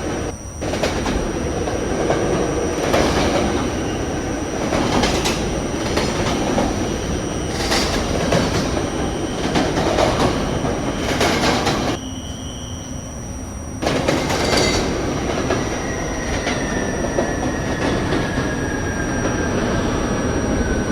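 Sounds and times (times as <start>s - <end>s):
subway wheels rumbling on rail: 0.0s - 20.9s.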